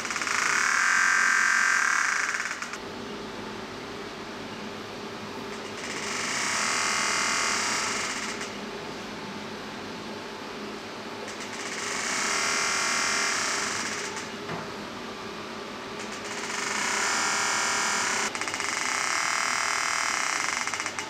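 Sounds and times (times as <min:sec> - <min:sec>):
cooling fan whirring: 0:00.0 - 0:21.0.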